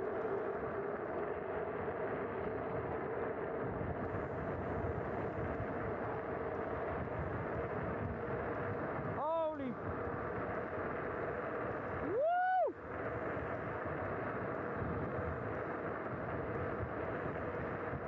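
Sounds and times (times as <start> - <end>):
electric scooter motor whine: 0.0 - 18.0
wind buffeting microphone: 0.0 - 18.0.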